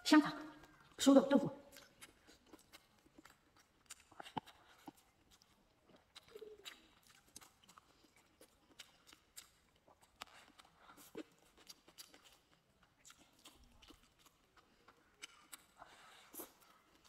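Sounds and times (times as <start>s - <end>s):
mouth chewing food: 0.0s - 17.0s.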